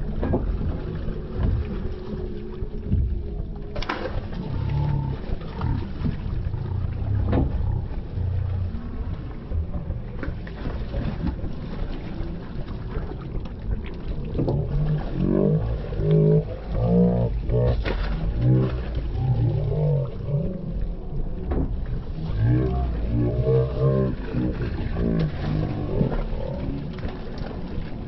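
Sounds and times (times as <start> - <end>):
boat engine rumble: 0.0 - 28.0.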